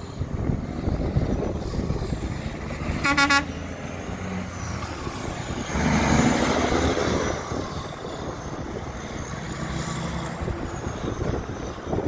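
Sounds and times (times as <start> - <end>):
heavy truck driving past: 0.0 - 12.0.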